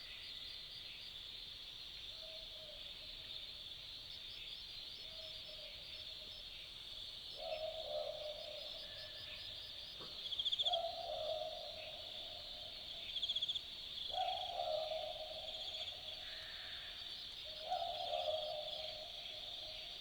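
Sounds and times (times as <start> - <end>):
insects chorus: 2.8 - 20.0.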